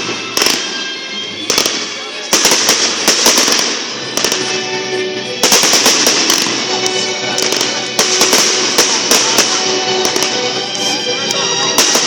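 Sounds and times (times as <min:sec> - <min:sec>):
fireworks crackling bangs: 0:00.0 - 0:12.0
music playing: 0:00.0 - 0:12.0.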